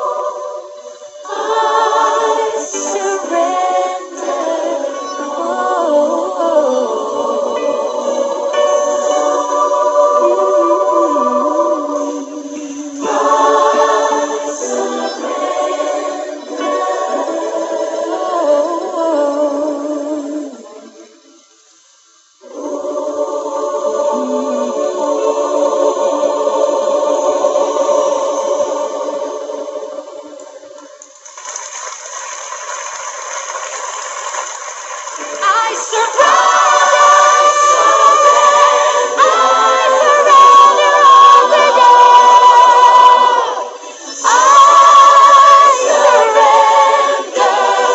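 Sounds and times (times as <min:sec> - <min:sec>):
choir singing sustained notes: 0:00.0 - 0:31.2, 0:35.1 - 0:47.9.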